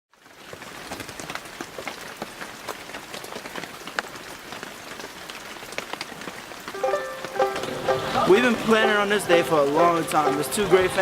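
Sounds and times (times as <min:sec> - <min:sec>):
rain drops ticking on hard surfaces: 0:00.1 - 0:11.0.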